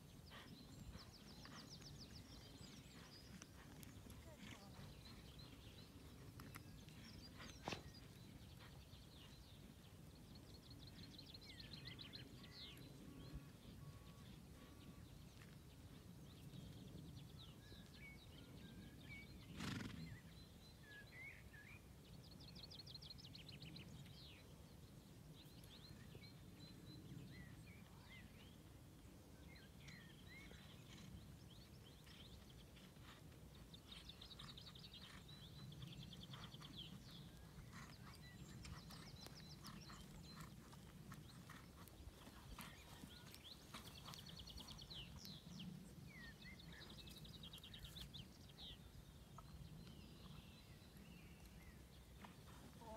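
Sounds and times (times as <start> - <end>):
small birds singing: 0.0 - 52.9.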